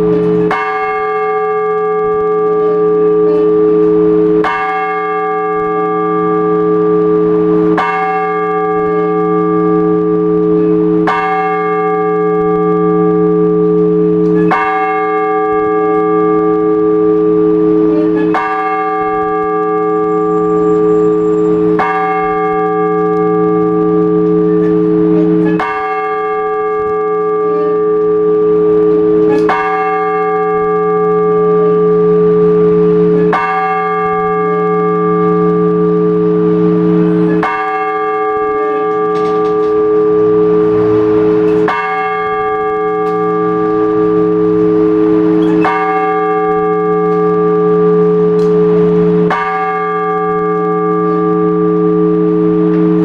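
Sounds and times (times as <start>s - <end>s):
church bell ringing: 0.0s - 53.0s.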